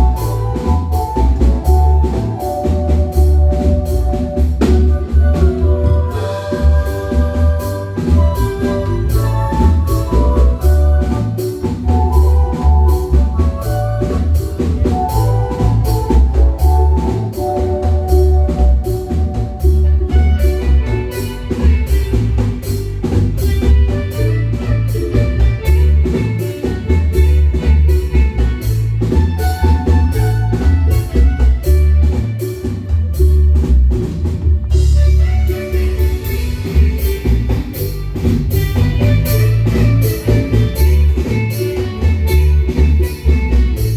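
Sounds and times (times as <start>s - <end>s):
drum kit: 0.0s - 43.9s
heavy bass line: 0.0s - 43.9s
marimba notes: 0.0s - 43.9s.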